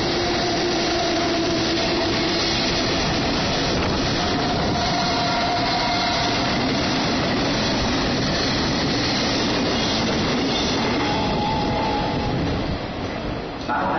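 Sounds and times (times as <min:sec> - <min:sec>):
train wheels rumbling on rail: 0:00.0 - 0:13.9.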